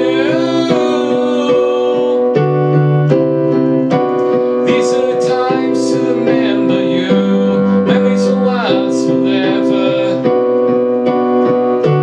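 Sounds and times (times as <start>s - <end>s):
electronic keyboard piano chords: 0.0s - 12.0s.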